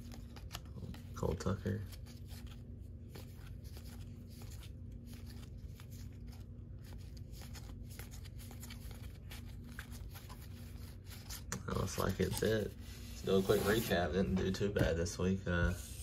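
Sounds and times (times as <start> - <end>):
cards being leafed through: 0.0 - 14.0
steady low hum: 0.0 - 16.0.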